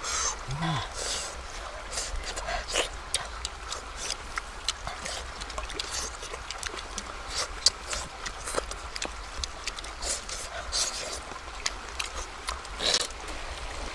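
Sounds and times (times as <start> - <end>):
lip smacks and chewing: 0.9 - 13.3.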